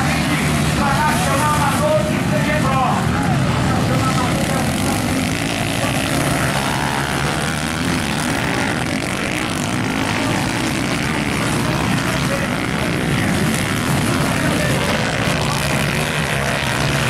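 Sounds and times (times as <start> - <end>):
motorcycle engines racing and revving: 0.0 - 17.0.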